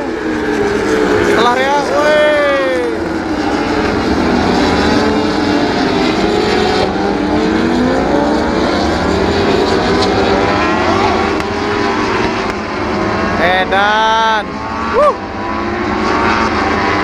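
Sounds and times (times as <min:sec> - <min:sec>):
racing motorcycles passing at high revs: 0:00.0 - 0:17.0.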